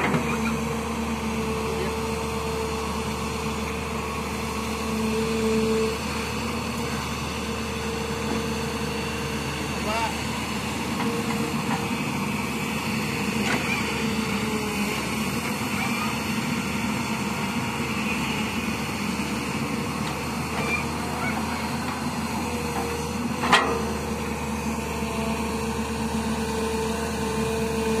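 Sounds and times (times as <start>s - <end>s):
excavator diesel engine running: 0.0s - 28.0s
hydraulic whine: 0.0s - 28.0s.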